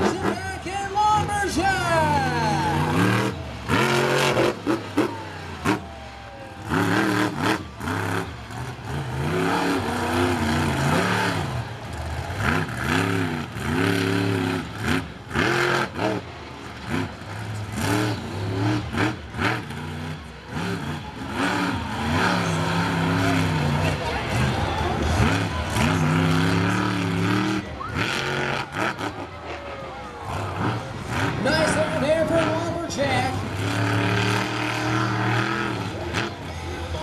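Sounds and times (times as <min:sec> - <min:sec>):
monster truck engine revving: 0:00.0 - 0:37.0.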